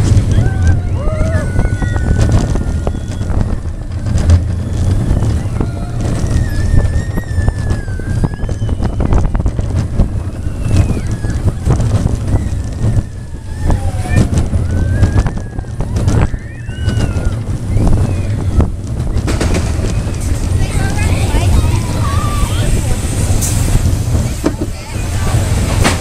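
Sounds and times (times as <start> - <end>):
roller coaster rumbling on track: 0.0 - 26.0
wind buffeting microphone: 0.0 - 26.0
high drawn-out squeals: 0.3 - 22.8.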